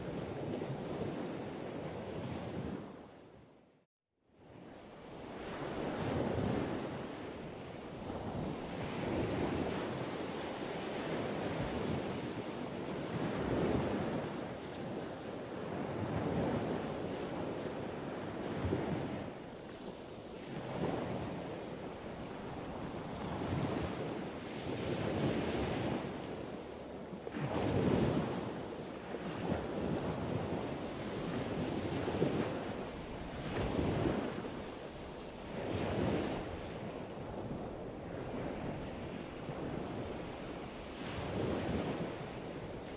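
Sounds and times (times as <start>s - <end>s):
wind buffeting microphone: 5.2s - 42.9s.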